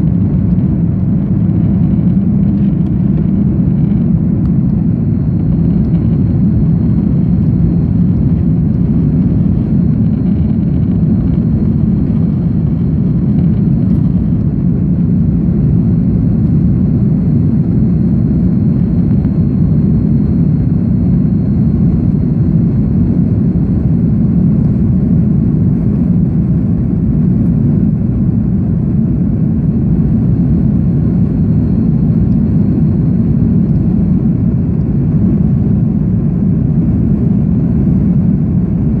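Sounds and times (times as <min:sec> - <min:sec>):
faint high whine: 0:00.0 - 0:39.0
jet engines rumbling in cabin: 0:00.0 - 0:39.0.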